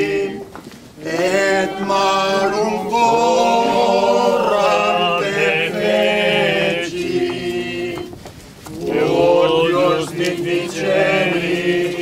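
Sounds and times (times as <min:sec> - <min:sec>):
group of voices chanting: 0:00.0 - 0:08.1, 0:08.7 - 0:12.0.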